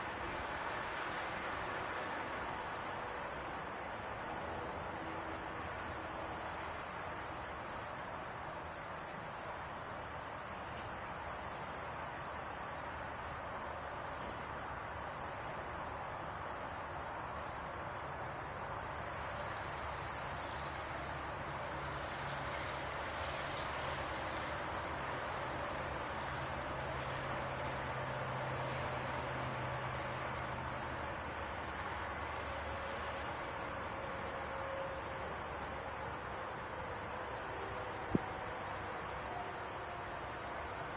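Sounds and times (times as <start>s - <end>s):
crickets and insects chorus: 0.0s - 40.9s.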